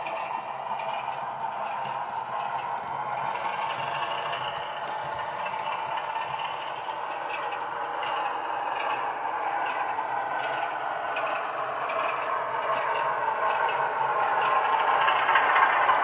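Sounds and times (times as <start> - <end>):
diesel engine sound from small speaker: 0.0 - 16.0.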